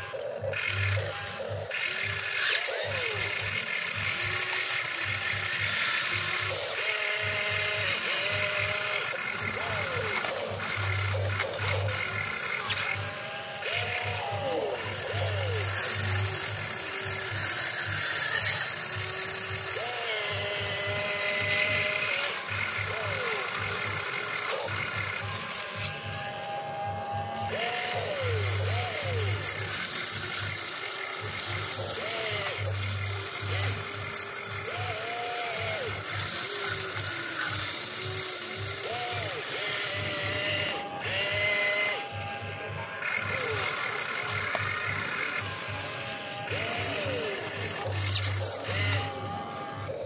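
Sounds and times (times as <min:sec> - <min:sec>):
electric motors whining: 0:00.0 - 0:50.0
low buzz: 0:00.0 - 0:50.0.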